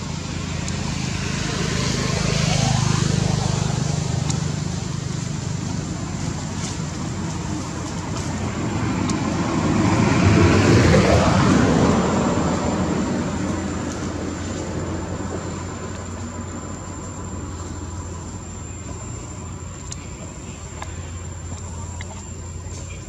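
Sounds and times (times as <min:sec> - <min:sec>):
motor vehicle passing by: 0:00.0 - 0:23.0.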